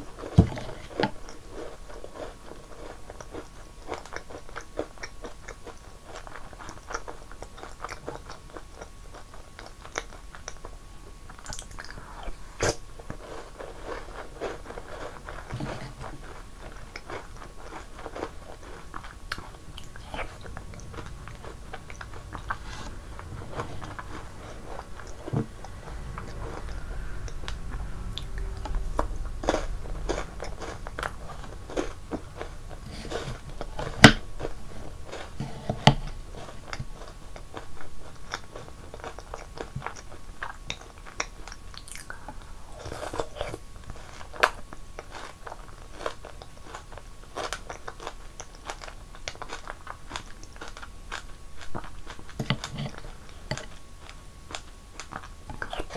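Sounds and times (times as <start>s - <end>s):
chewing and crunching: 0.0s - 55.9s.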